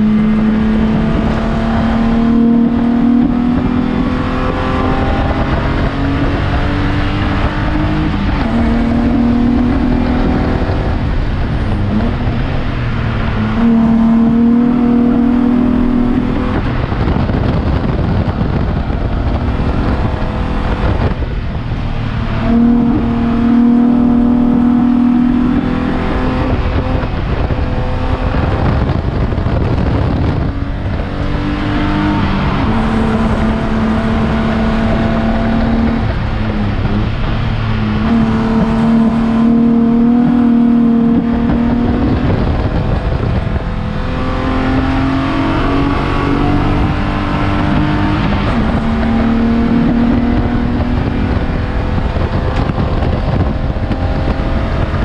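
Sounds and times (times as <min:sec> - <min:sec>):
race car engine at high revs: 0:00.0 - 0:55.0
road and wind noise: 0:00.0 - 0:55.0.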